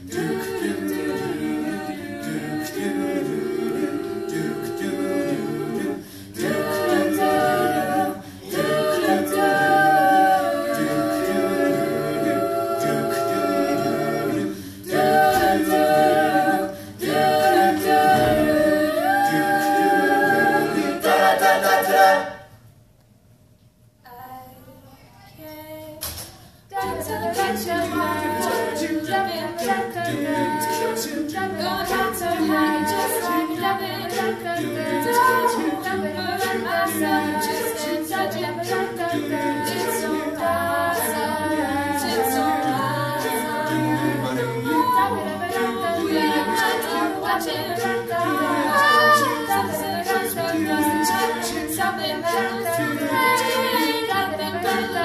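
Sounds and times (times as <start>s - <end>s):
group singing a cappella: 0.0s - 22.6s, 26.1s - 55.0s.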